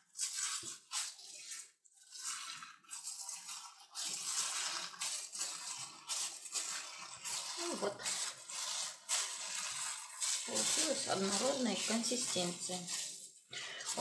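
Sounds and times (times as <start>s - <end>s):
moist mixture squishing: 0.0s - 14.0s
plastic gloves rustling: 0.0s - 14.0s.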